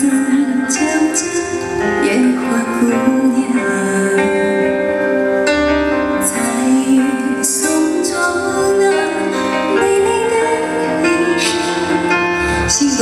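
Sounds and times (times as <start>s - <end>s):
woman singing pop song: 0.0s - 5.3s, 6.0s - 13.0s
instrumental backing: 0.0s - 13.0s.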